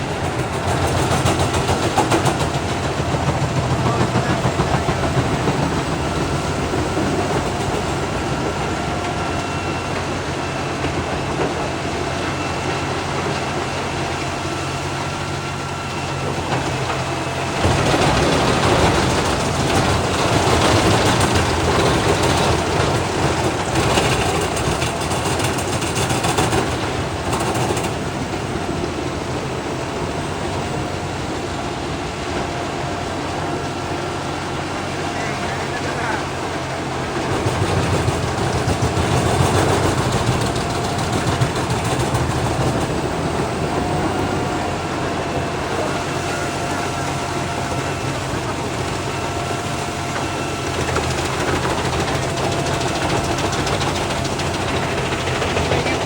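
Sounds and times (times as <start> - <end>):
wood chipper engine running: 0.0 - 56.0.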